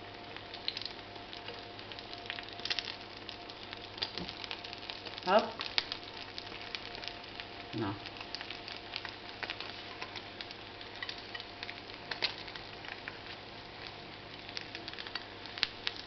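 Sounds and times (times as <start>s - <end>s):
omelette sizzling in a frying pan: 0.0s - 16.0s.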